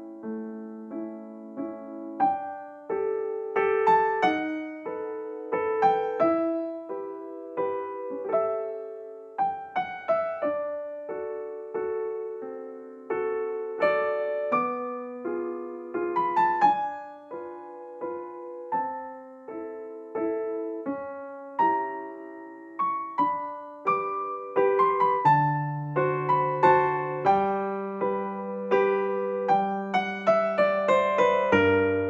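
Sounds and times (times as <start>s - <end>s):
slow gentle piano melody: 0.0s - 32.0s.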